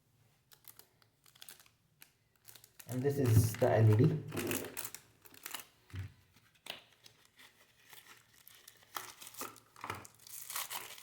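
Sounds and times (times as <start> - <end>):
packaging crinkling and rustling: 0.4 - 11.0.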